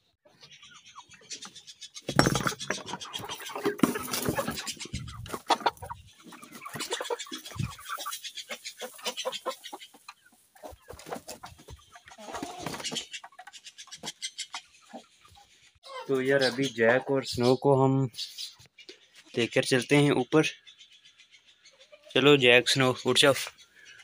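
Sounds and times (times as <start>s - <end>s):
chickens clucking and squawking: 0.0s - 24.0s.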